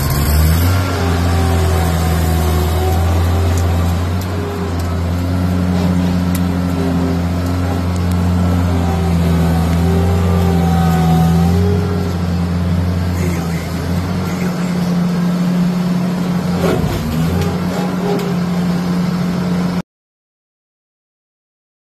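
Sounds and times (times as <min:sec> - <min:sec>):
skid steer engine running: 0:00.0 - 0:19.8.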